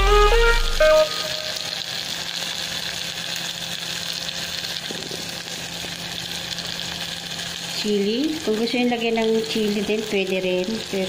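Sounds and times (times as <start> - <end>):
food sizzling in a frying pan: 0.8 - 11.0.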